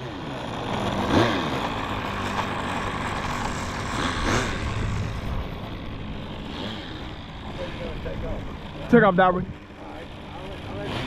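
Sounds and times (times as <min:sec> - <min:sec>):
model aircraft engine running: 0:00.0 - 0:11.0.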